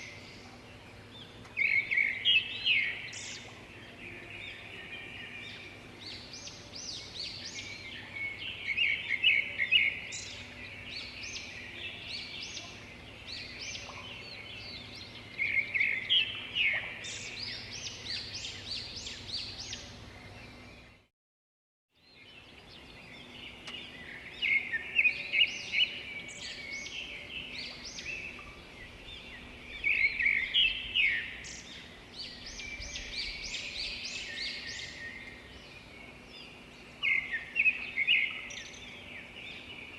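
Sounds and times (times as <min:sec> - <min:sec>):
birds chirping: 0:00.0 - 0:21.1, 0:22.1 - 0:39.9.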